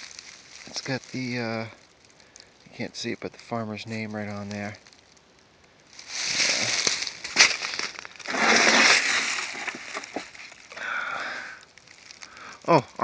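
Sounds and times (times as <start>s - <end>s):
dry leaves crunching: 0.0s - 13.0s.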